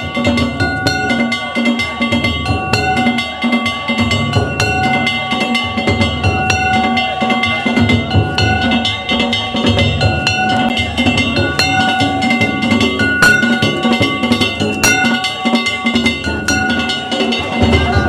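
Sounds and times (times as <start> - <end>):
metal hand gongs ringing: 0.0 - 18.0
taiko drum: 0.0 - 18.0.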